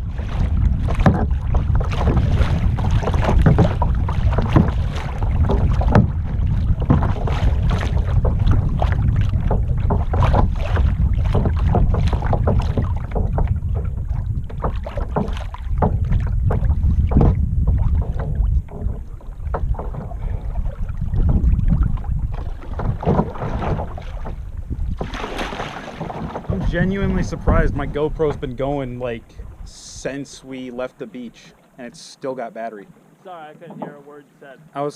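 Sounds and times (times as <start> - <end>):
wind rumble on microphone: 0.0 - 30.1
paddle splashing in water: 0.0 - 34.8.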